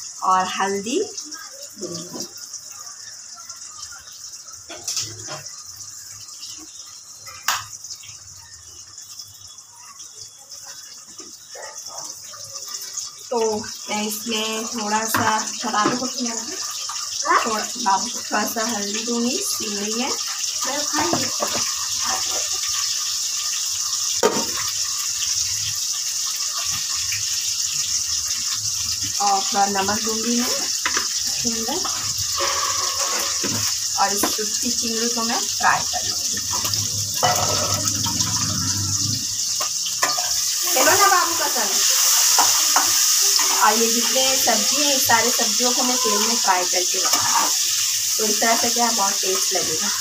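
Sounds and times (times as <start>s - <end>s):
shrimp sizzling in hot oil: 0.0s - 50.0s.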